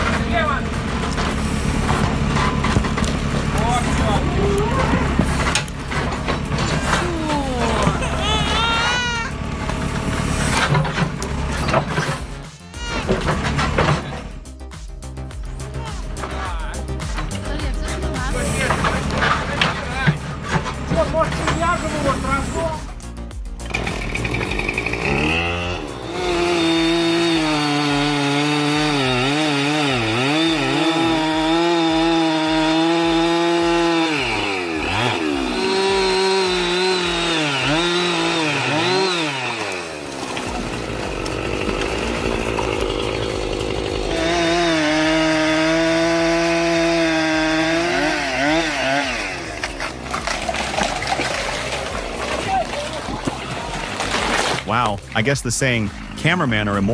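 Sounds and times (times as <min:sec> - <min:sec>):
chainsaw cutting: 0:00.0 - 0:14.5, 0:15.6 - 0:56.7.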